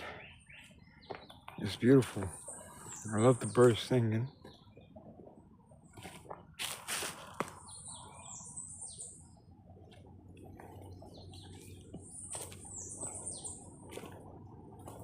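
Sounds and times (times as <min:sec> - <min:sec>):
songbird chirping: 0:00.0 - 0:15.0
soft footsteps on trail: 0:00.4 - 0:05.3, 0:05.9 - 0:08.1, 0:09.8 - 0:15.0.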